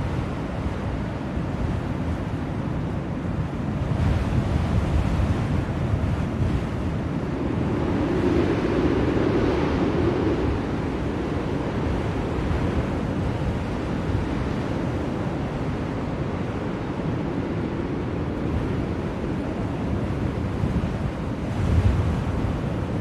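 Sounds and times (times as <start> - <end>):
blizzard wind rushing: 0.0 - 23.0.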